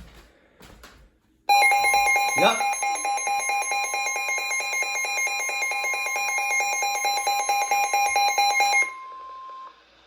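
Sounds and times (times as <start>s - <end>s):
steady high alarm tone: 1.5s - 9.8s.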